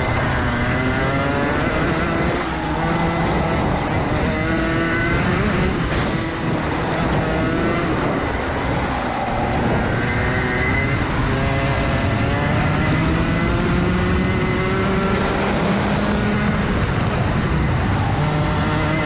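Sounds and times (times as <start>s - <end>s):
kart engine revving: 0.0s - 19.0s.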